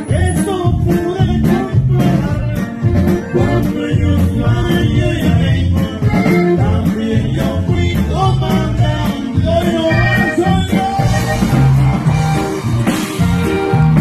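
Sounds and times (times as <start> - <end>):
man singing: 0.0 - 11.7
bass and drums beat: 0.0 - 14.0
button accordion: 0.0 - 14.0.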